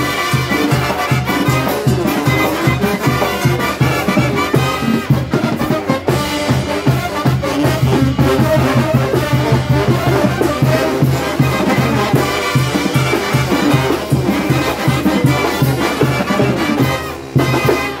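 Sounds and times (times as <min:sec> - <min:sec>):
brass band playing: 0:00.0 - 0:18.0
drums bass beat: 0:00.0 - 0:18.0.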